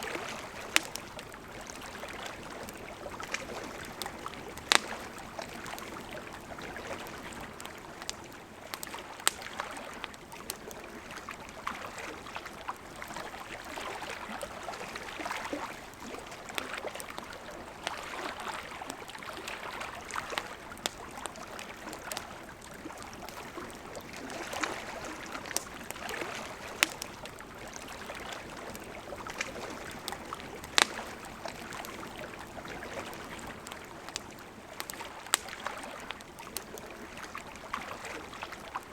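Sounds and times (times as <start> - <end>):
campfire crackling and popping: 0.0 - 38.9
river water flowing: 0.0 - 38.9.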